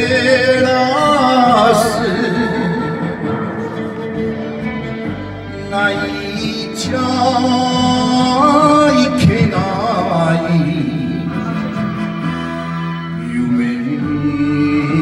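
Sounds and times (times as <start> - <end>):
man singing into microphone: 0.0 - 4.7, 5.4 - 11.8, 13.0 - 15.0
karaoke backing track: 0.0 - 15.0.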